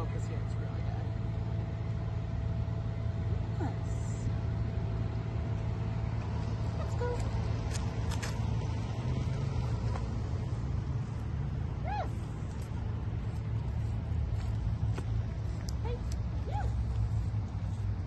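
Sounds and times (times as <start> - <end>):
distant road traffic rumble: 0.0 - 18.0.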